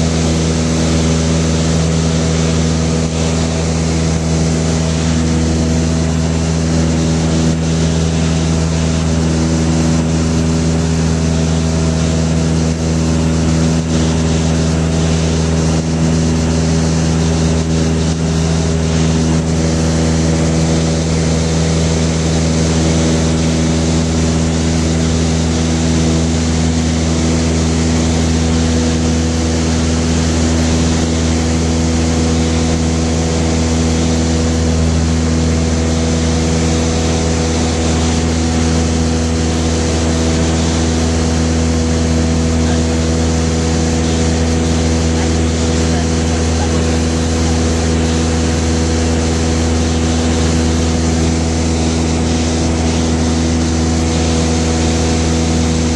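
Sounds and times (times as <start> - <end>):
light aircraft engine drone: 0.0 - 55.9.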